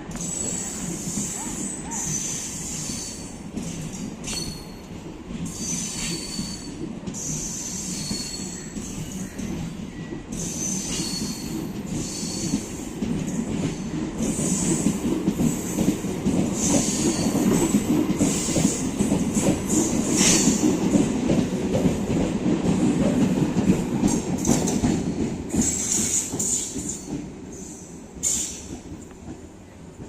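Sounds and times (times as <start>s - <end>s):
train wheels clattering over rail joints: 0.2s - 29.4s.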